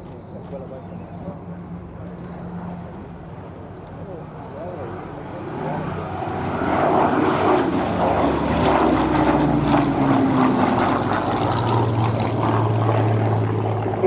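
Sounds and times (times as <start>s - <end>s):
propeller plane flying past: 0.0s - 14.0s.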